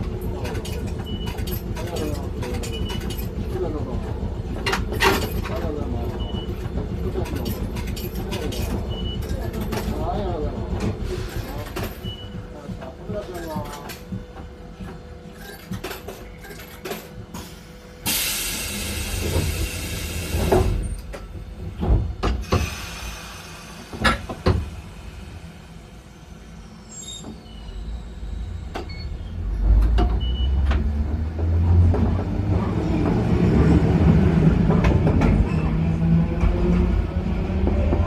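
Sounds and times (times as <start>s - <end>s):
tram motors and wheels rumbling: 0.0s - 38.0s.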